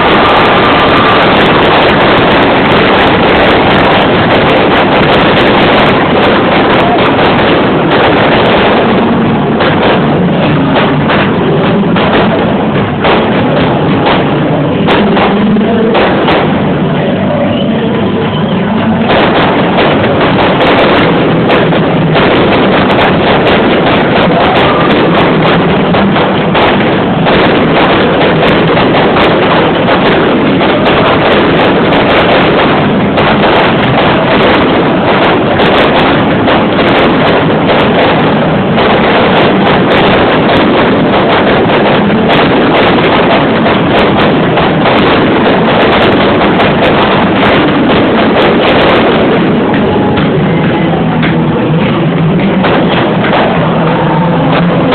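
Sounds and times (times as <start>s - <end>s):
fireworks banging: 0.0s - 54.9s.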